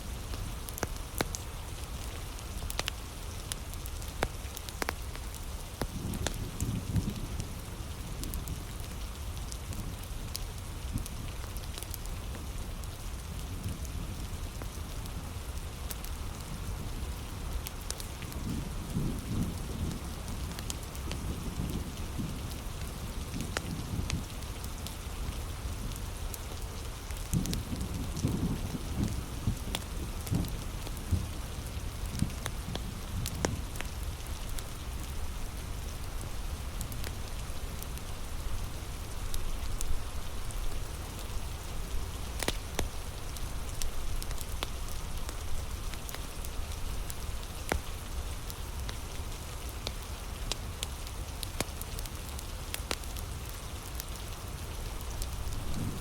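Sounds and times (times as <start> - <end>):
heavy rain falling: 0.0 - 56.0
wood fire crackling and popping: 0.2 - 12.5, 13.1 - 56.0.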